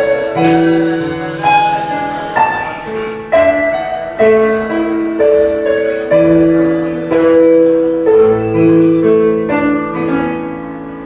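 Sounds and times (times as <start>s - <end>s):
keyboard piano chords: 0.0s - 11.0s.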